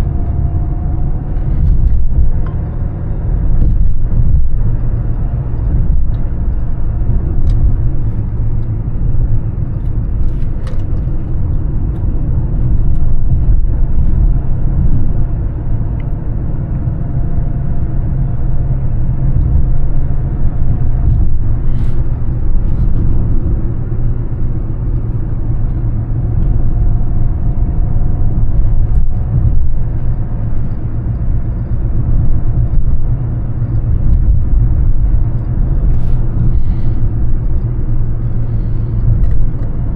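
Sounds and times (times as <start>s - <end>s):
diesel engine rumbling: 0.0s - 39.9s
tyre and road noise: 0.0s - 39.9s.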